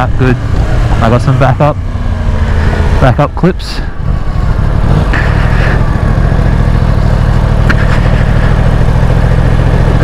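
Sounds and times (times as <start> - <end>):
motorcycle engine idling: 0.4 - 10.0.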